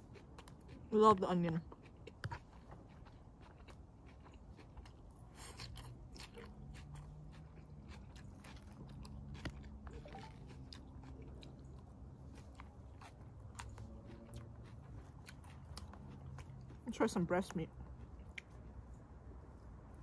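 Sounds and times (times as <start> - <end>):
person chewing crunchy food: 0.0 - 20.0.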